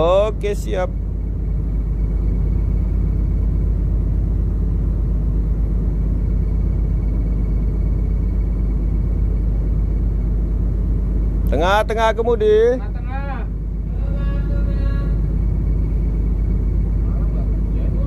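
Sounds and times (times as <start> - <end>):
faint high whine: 0.0 - 18.0
ship engine rumble: 0.0 - 18.0.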